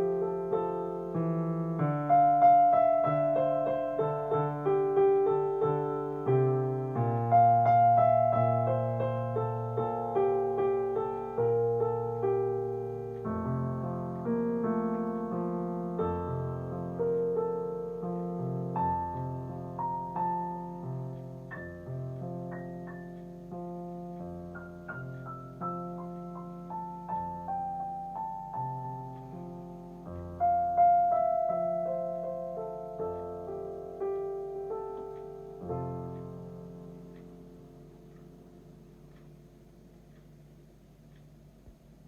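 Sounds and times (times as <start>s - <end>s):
slow piano music: 0.0s - 42.0s.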